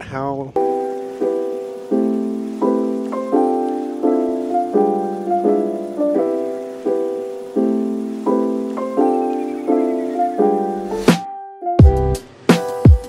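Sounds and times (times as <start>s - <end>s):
keyboard chords: 0.6s - 13.0s.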